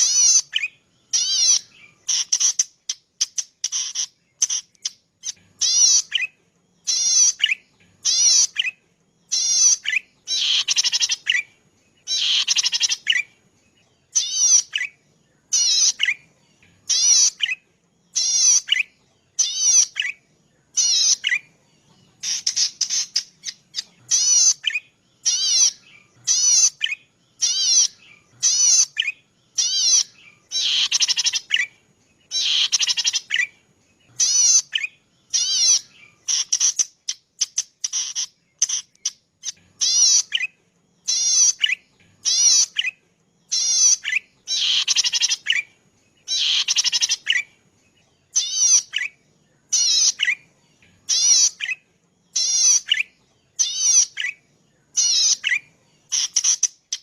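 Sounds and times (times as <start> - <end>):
warbler singing buzzy trills: 0.0 - 57.0.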